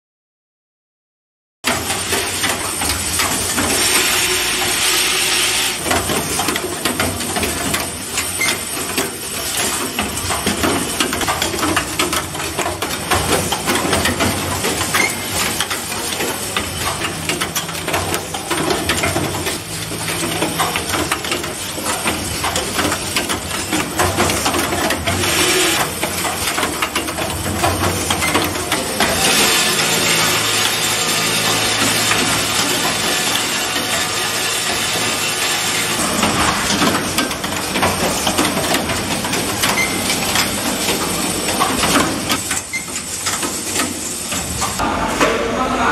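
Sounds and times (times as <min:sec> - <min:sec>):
pneumatic machine clattering: 0:01.7 - 0:44.8.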